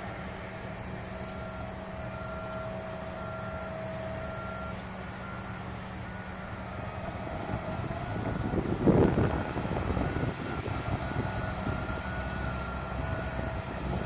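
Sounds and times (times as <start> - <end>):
diesel machinery droning: 0.0 - 14.0
truck backup alarm beeping: 0.0 - 14.0.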